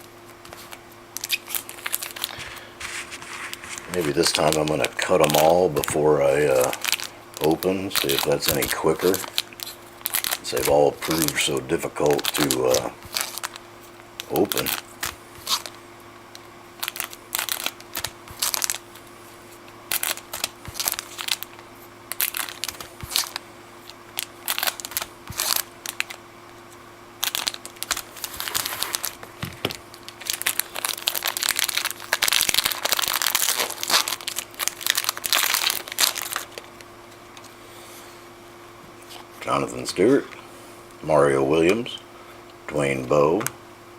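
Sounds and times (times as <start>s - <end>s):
foil wrappers crinkling: 0.0s - 37.6s.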